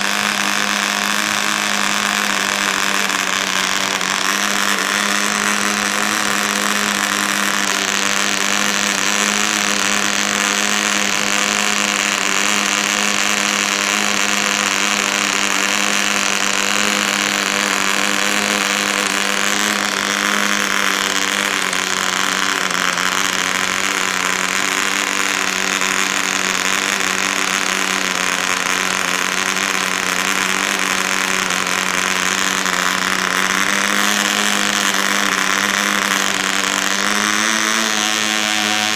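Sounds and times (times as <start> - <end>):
model aircraft engine buzzing: 0.0 - 38.9.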